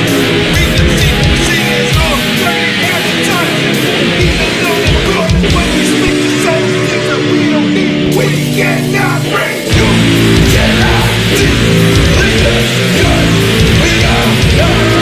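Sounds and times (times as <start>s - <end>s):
distorted electric guitar: 0.0s - 15.0s
heavy metal band with bass: 0.0s - 15.0s.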